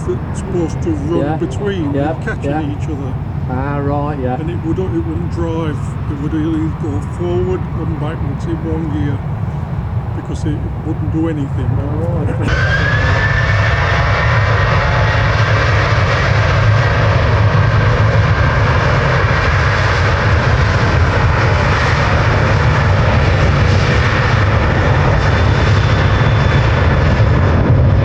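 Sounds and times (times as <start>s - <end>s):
jet engines running: 0.0s - 28.0s.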